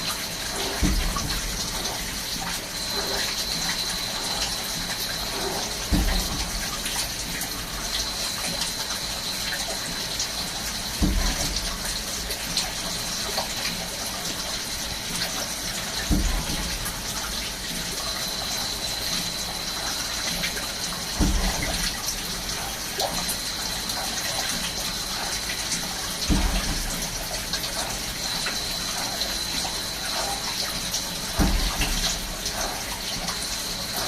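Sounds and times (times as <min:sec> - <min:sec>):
coolant gushing: 0:00.0 - 0:34.0.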